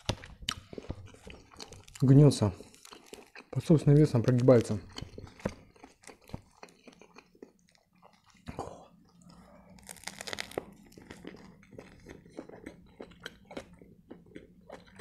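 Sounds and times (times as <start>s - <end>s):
wrapper crunching on bite: 0.0s - 8.4s, 9.7s - 15.0s
close-miked chewing: 0.0s - 15.0s.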